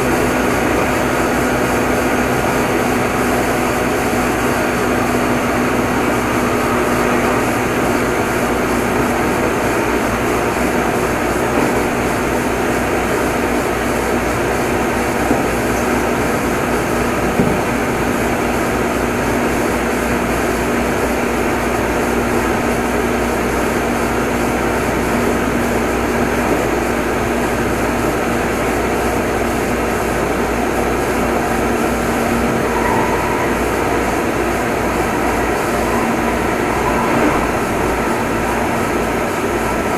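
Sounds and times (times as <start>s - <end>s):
train motor hum: 0.0s - 39.9s
train wheels rumbling: 0.0s - 39.9s.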